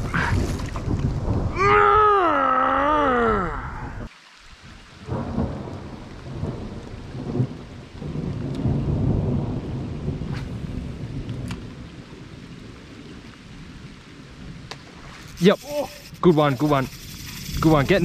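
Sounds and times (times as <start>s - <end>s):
thunder rumbling: 0.0s - 4.1s, 5.0s - 18.0s
rain hissing: 0.0s - 18.0s.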